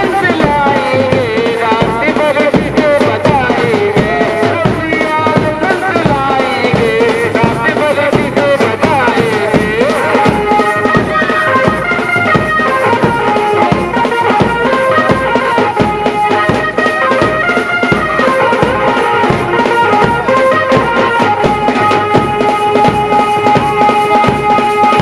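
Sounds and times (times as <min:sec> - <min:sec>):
instrumental music with drum beat: 0:00.0 - 0:25.0.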